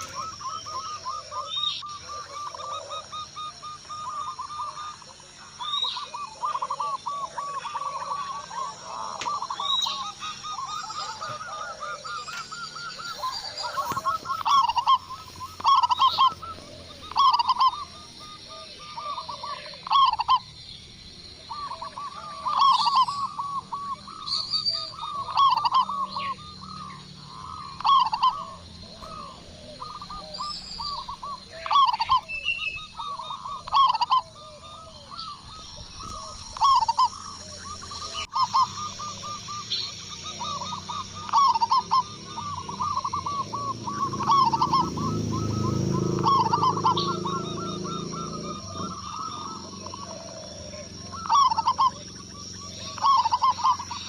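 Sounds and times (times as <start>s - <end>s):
doves cooing: 0.0s - 54.0s.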